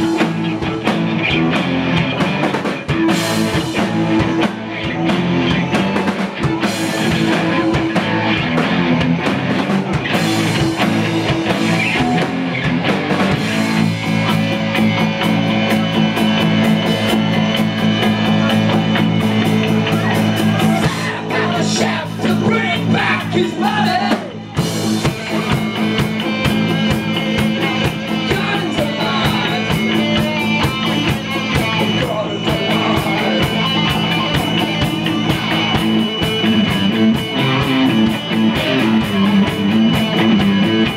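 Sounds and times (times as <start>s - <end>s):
drum kit: 0.0s - 40.9s
electric bass: 0.0s - 40.9s
electric guitars: 0.0s - 40.9s.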